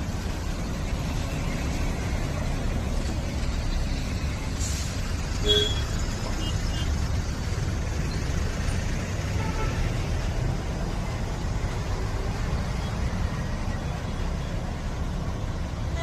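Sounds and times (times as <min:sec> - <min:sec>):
traffic on wet road: 0:00.0 - 0:16.0.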